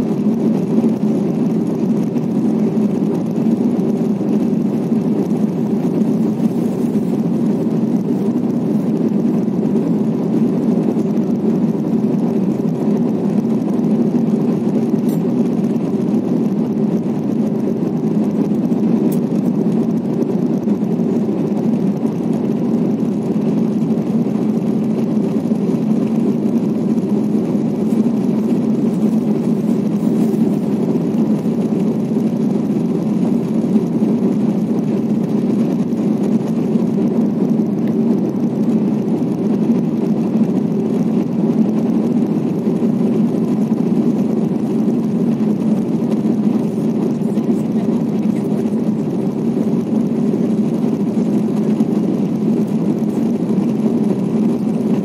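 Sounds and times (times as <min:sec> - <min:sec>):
jet cabin engine drone: 0:00.0 - 0:55.0.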